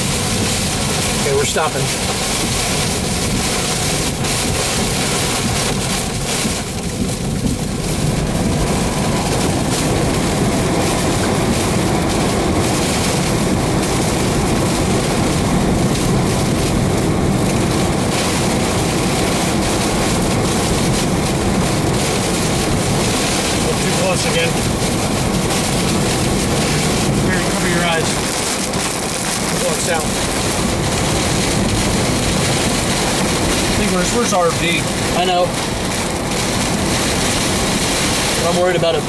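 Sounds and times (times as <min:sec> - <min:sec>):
driving rain battering a car: 0:00.0 - 0:39.0
strong wind roaring: 0:00.0 - 0:39.0.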